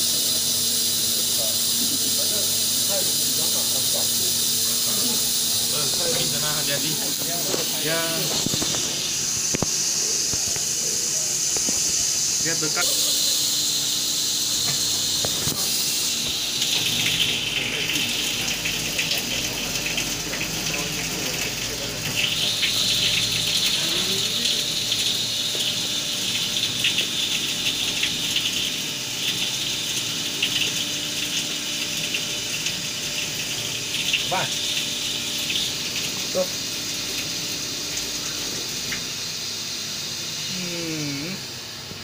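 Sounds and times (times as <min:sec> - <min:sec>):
coolant spraying hiss: 0:00.0 - 0:42.0
faint machine hum: 0:00.0 - 0:42.0.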